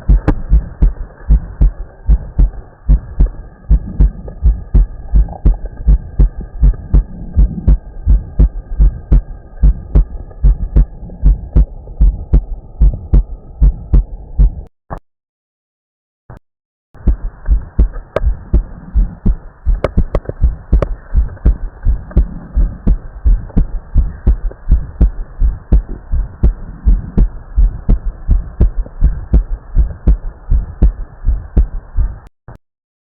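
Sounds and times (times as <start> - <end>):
heartbeat through stethoscope: 0.0 - 14.7, 17.0 - 32.3.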